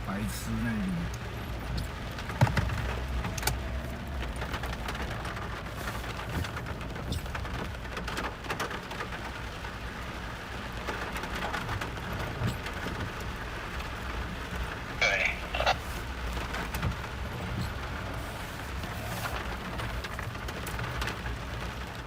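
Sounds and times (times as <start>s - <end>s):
small crackles and ticks: 0.2s - 22.0s.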